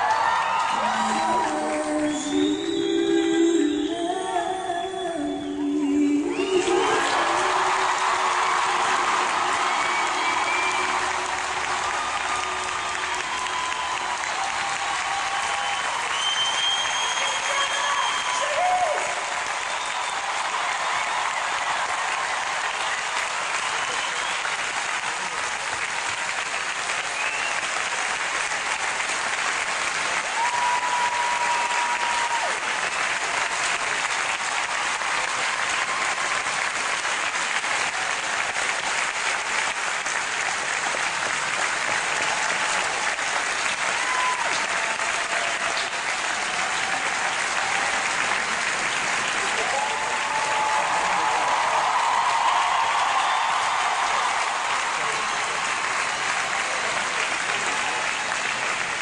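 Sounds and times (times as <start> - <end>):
crowd applauding and cheering: 0.0 - 4.2, 4.8 - 59.0.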